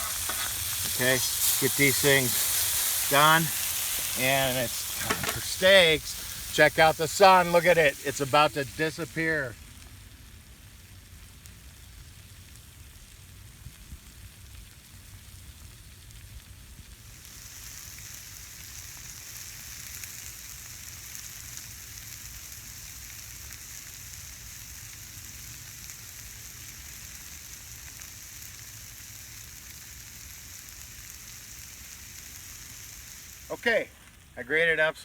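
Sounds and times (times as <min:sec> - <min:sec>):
food sizzling on a griddle: 0:00.0 - 0:35.0.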